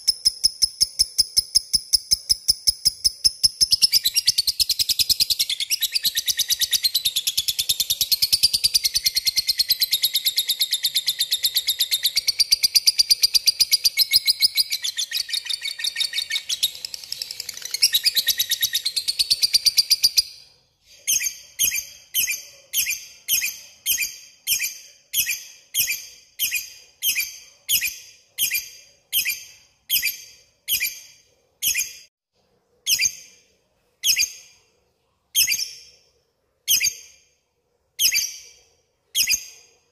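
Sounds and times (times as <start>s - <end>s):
bird chirps: 0.0s - 32.1s, 32.8s - 34.7s, 35.3s - 37.3s, 38.0s - 39.9s.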